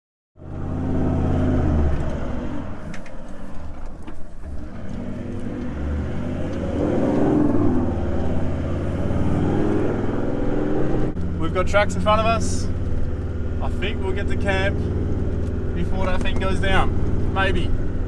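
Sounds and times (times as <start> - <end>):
vehicle engine revving: 0.4 - 18.0.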